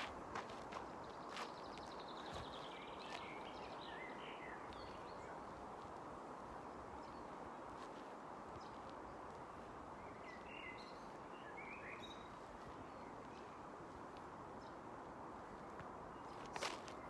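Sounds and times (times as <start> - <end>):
outdoor background hiss: 0.0 - 17.0
songbirds trilling and chirping: 0.0 - 17.0.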